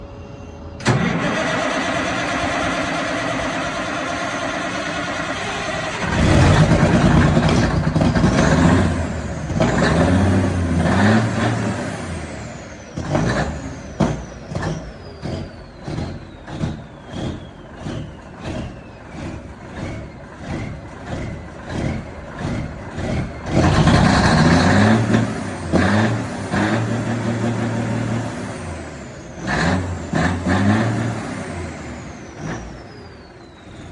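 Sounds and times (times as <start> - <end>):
diesel engine running rough: 0.0 - 33.9
diesel engine cranking: 0.5 - 33.9.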